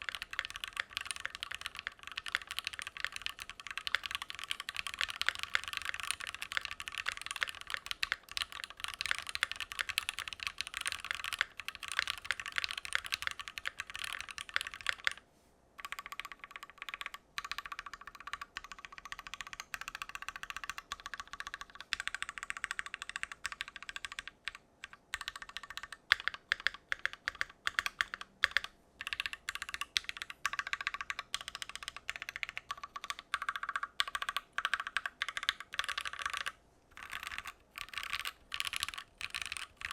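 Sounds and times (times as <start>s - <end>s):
mechanical keyboard typing: 0.0s - 15.2s, 15.8s - 39.9s.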